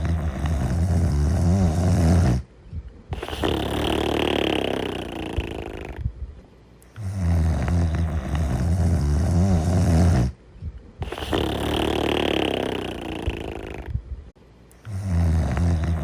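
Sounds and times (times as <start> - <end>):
person snoring: 0.0 - 2.5, 3.1 - 6.0, 6.9 - 10.4, 11.0 - 14.0, 14.8 - 16.0.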